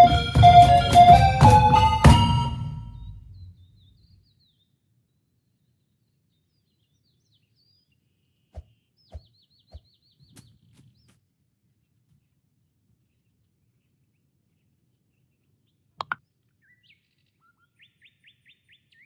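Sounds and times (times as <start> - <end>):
faint birdsong chirps and trill: 3.3 - 19.0.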